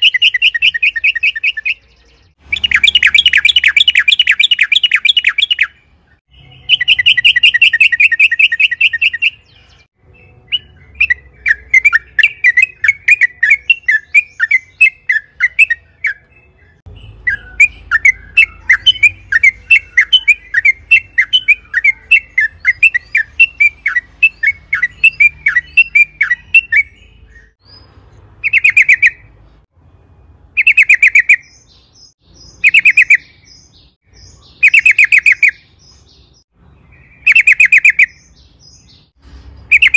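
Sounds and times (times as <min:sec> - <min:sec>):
bird singing trills: 0:00.0 - 0:29.7, 0:30.6 - 0:39.9.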